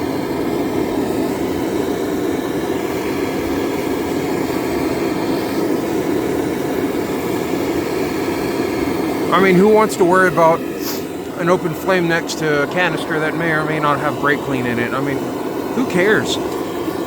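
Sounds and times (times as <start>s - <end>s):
torch flame roaring: 0.0s - 17.0s.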